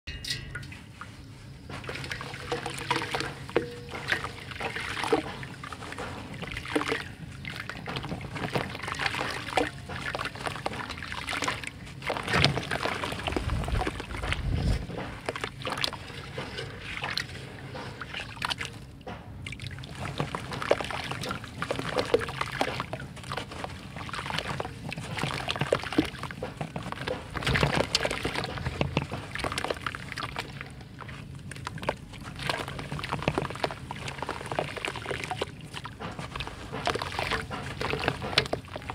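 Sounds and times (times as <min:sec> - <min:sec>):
water sloshing in a tub: 0:00.1 - 0:38.9
gritty crackling of dirt: 0:00.6 - 0:38.9.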